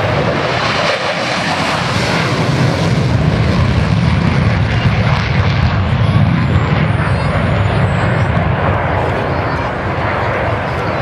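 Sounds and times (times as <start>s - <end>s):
jet engine at takeoff power: 0.0s - 11.0s.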